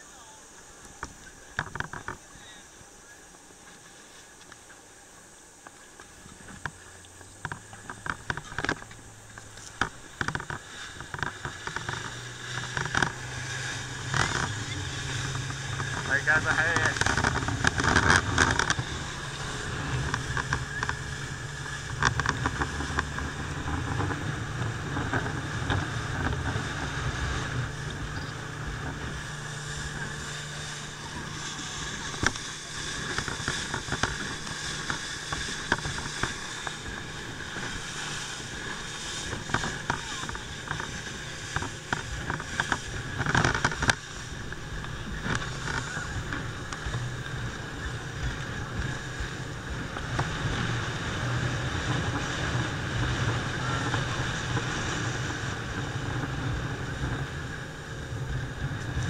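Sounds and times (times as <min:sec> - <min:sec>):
boat engine running: 0:00.0 - 0:59.0
rushing water and wake: 0:00.0 - 0:59.0
wind buffeting microphone: 0:06.2 - 0:59.0.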